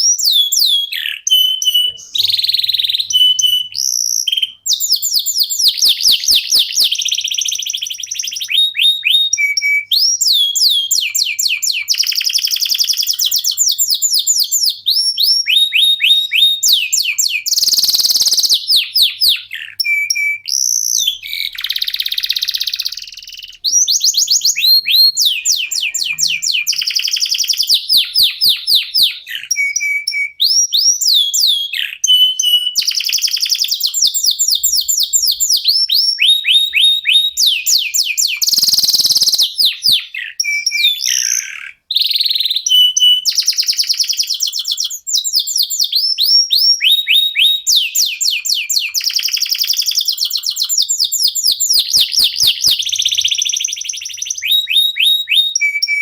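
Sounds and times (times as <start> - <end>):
canaries singing in trills: 0.0 - 56.0.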